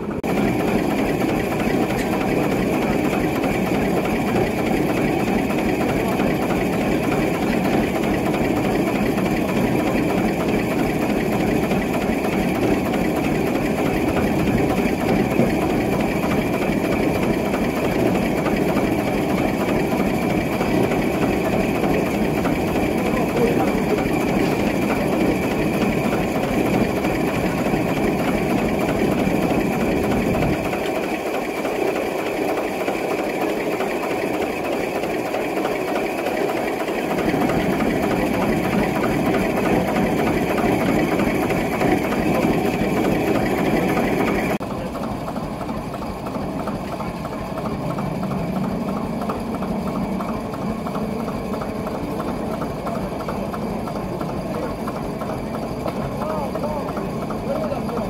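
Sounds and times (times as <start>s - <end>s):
frame saw mechanical clatter: 0.0s - 58.0s.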